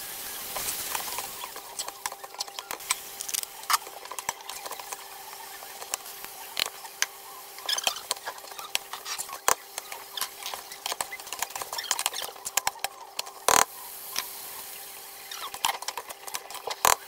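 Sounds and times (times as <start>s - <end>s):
spatula scraping frying pan: 0.6s - 14.3s.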